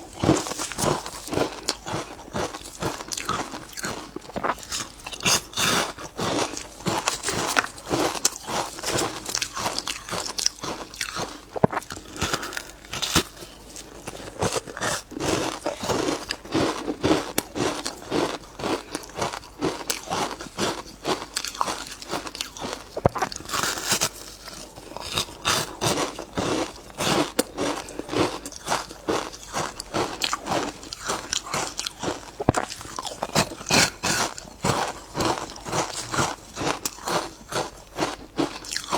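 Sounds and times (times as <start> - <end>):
ice crunched between teeth: 0.1 - 38.9.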